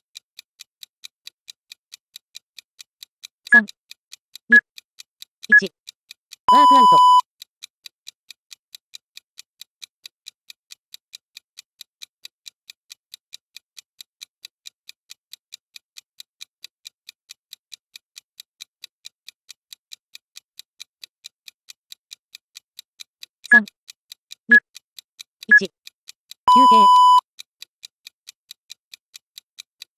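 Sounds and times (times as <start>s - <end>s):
timer ticking: 0.1s - 29.9s.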